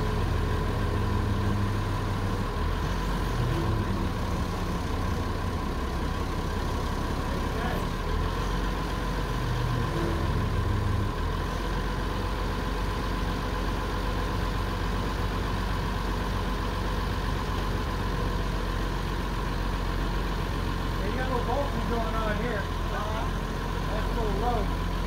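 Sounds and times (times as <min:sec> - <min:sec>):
forklift engine idling: 0:00.0 - 0:25.0.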